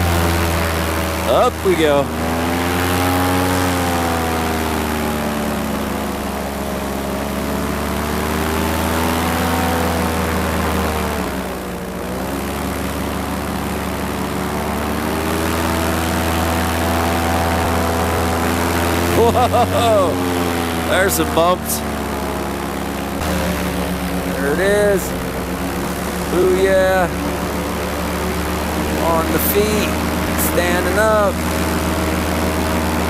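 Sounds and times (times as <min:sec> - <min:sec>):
paramotor engine and propeller: 0:00.0 - 0:33.0.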